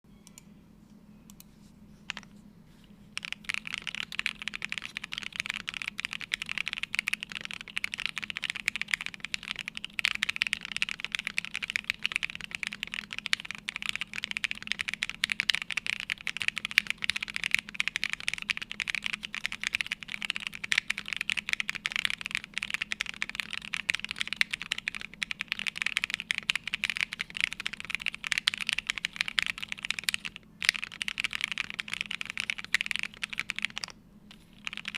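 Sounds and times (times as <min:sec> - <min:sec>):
fast typing on mechanical keyboard: 0:03.2 - 0:34.9.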